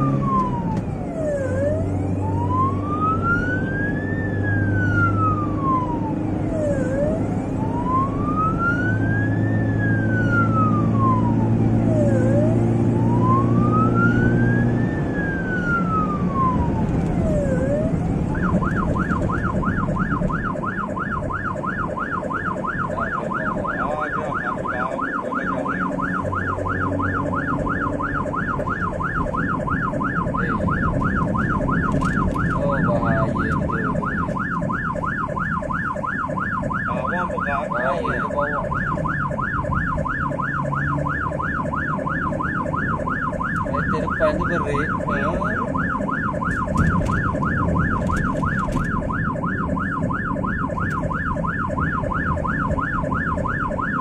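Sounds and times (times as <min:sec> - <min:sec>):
ambulance siren wailing: 0:00.0 - 0:54.0
engine and road noise: 0:00.0 - 0:54.0.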